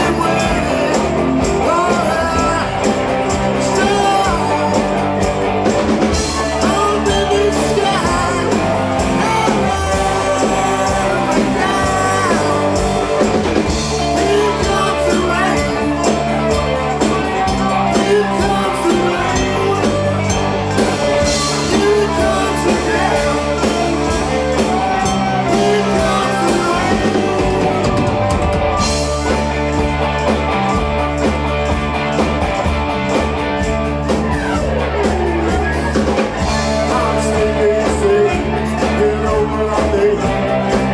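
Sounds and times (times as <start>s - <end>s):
person singing: 0.0s - 29.6s, 34.0s - 40.9s
rock band playing: 0.0s - 40.9s.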